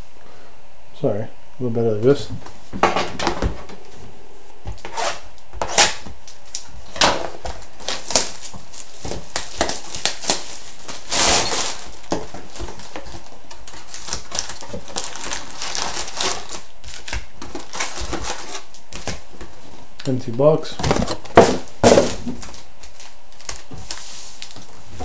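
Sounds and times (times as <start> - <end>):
card packs rustling: 2.2 - 25.0.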